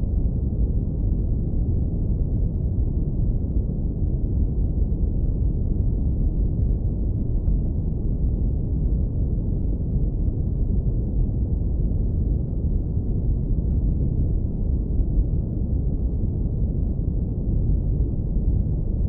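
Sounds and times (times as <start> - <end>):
low brown noise rumble: 0.0 - 19.0.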